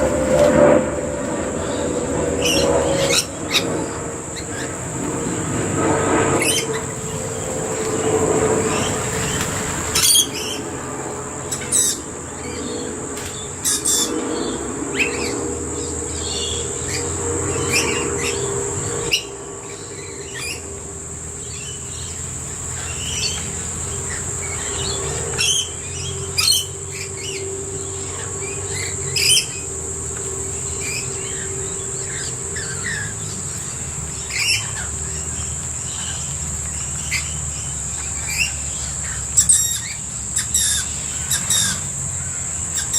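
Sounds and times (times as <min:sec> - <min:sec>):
birds calling in sharp bursts: 0:00.0 - 0:42.9
high-pitched insect drone: 0:00.0 - 0:42.9.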